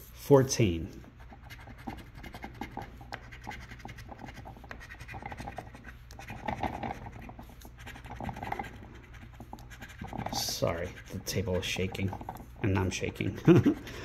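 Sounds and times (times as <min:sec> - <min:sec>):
lottery ticket scratching: 0:01.2 - 0:13.9.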